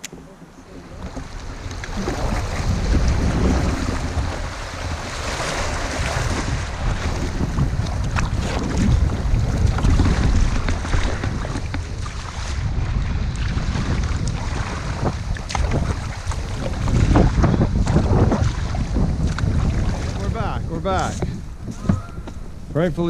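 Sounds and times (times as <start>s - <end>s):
water lapping and splashing: 0.0s - 23.0s
wind buffeting microphone: 0.0s - 23.0s.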